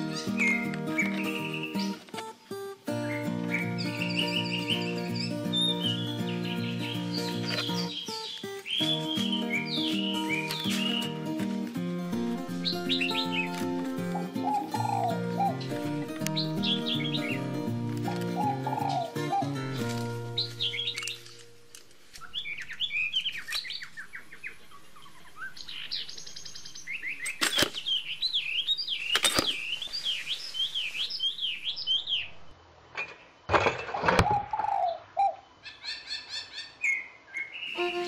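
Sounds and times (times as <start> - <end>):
birds chirping: 0.0 - 33.6, 34.2 - 38.0.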